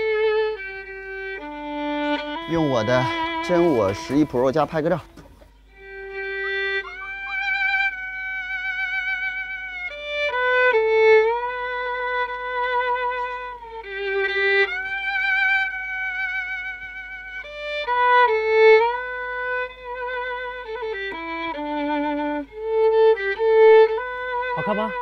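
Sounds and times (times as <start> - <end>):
solo violin melody: 0.0 - 25.0.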